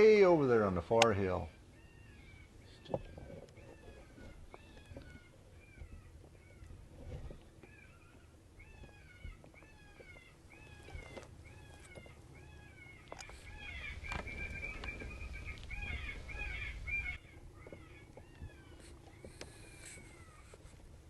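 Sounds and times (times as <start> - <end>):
faint predator call distress cries: 1.3 - 20.8.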